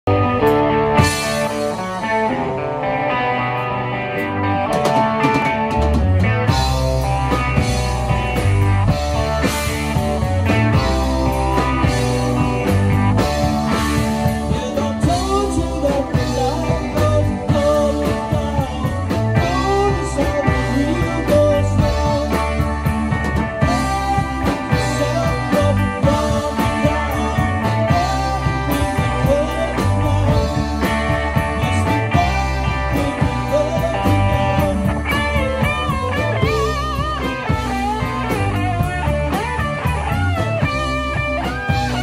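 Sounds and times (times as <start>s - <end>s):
bass guitar: 0.0s - 42.0s
electric guitars: 0.0s - 42.0s
keyboards: 0.0s - 42.0s
drum kit: 0.1s - 42.0s.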